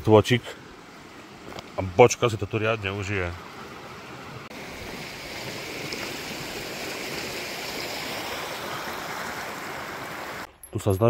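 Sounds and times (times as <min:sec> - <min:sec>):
brook rushing over stones: 0:00.8 - 0:10.5.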